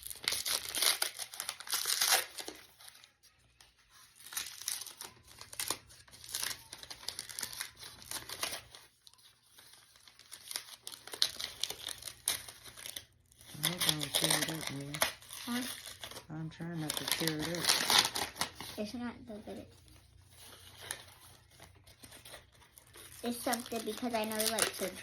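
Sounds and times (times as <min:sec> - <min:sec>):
paper crinkling and tearing: 0:00.0 - 0:25.0.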